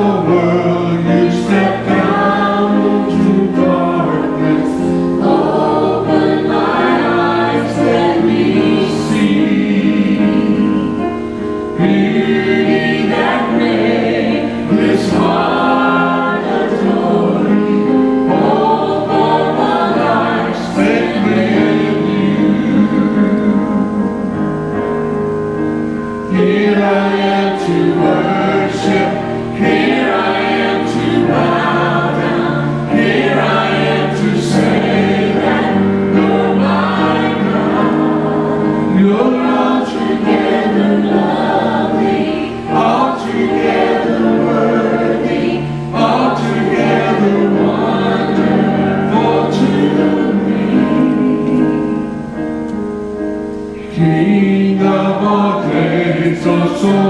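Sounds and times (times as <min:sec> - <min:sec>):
choir singing gospel song: 0:00.0 - 0:57.0
instrumental accompaniment: 0:00.0 - 0:57.0.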